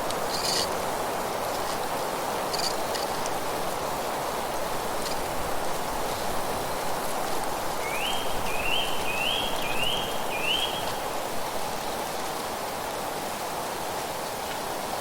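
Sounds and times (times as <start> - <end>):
wind through leaves: 0.0 - 15.0.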